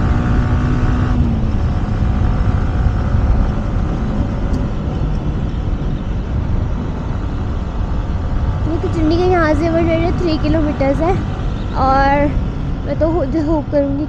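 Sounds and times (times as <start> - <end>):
motorcycle engine: 0.0 - 13.8
wind rushing over microphone: 0.0 - 14.0.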